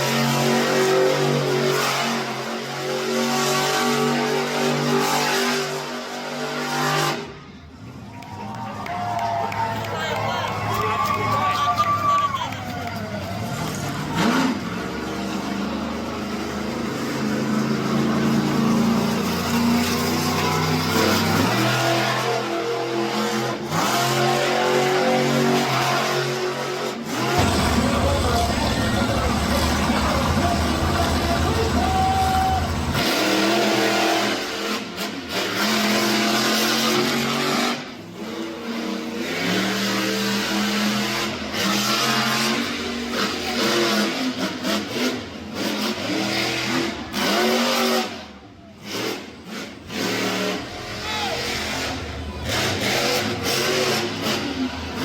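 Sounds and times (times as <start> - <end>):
truck engine revving: 0.0 - 8.0, 12.6 - 55.0.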